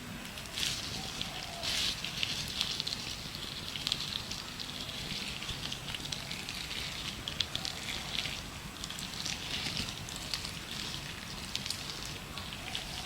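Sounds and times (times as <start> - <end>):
gloves rubbing and crinkling: 0.4 - 13.0.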